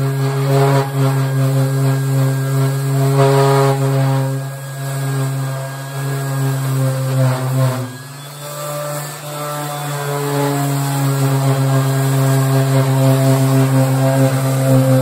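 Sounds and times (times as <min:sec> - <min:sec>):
orbital sander on steel: 0:00.0 - 0:15.0.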